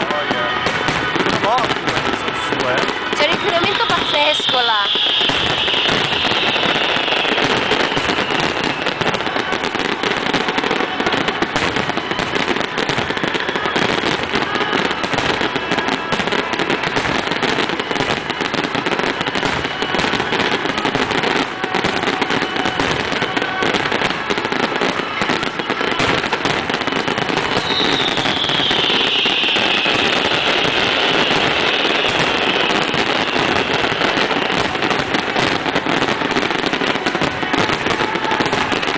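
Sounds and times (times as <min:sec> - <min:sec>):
falling firework whistle: 0:00.0 - 0:38.9
fireworks bangs and crackling: 0:00.0 - 0:38.9.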